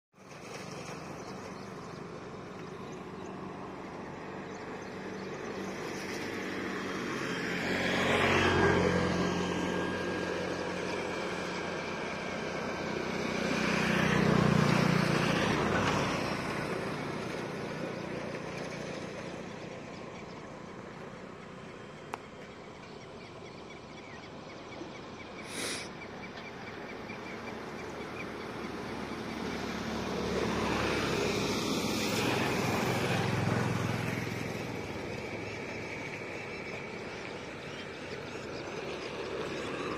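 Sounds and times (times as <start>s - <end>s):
traffic background: 0.2s - 39.9s
vehicles passing on road: 0.2s - 39.9s.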